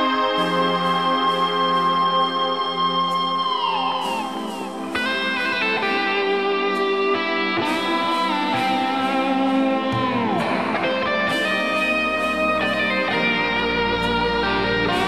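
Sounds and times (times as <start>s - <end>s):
electric guitar with pitch bends: 0.0s - 15.0s.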